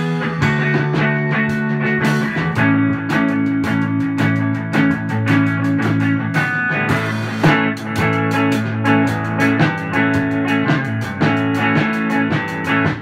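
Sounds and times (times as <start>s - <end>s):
drum kit steady beat: 0.0s - 13.0s
electric guitar ringing notes: 0.0s - 13.0s.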